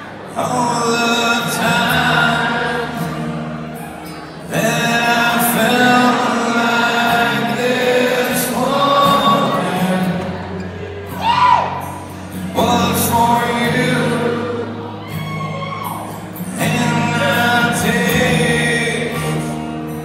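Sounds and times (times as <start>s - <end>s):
man singing: 0.0s - 3.6s, 4.2s - 11.2s, 12.3s - 15.1s, 16.2s - 20.0s
strummed acoustic guitar: 0.0s - 20.0s.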